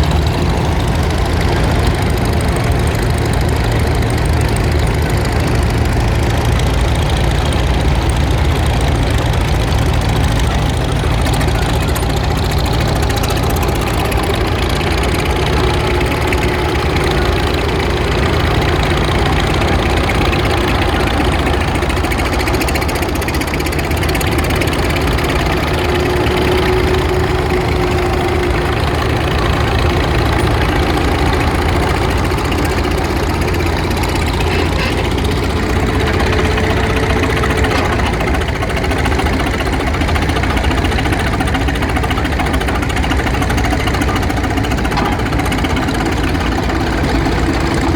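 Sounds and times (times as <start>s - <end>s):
tractor engines running: 0.0s - 47.9s.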